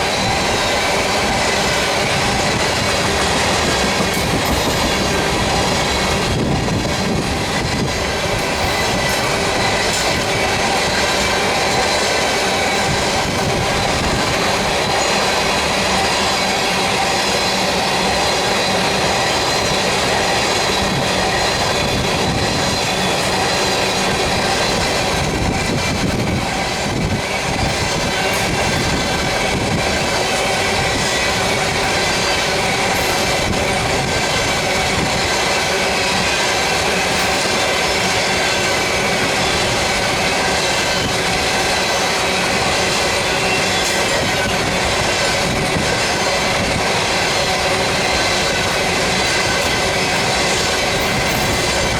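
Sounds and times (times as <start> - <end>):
train wheels clicking over rails: 0.0 - 51.9.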